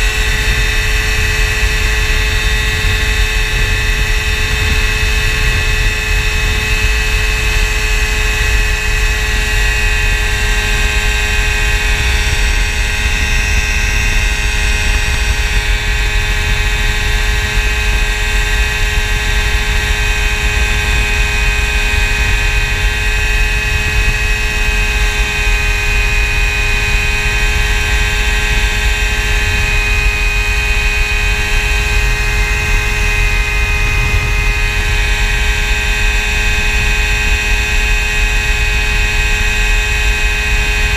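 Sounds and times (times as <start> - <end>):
aircraft engine and propeller: 0.0 - 40.9.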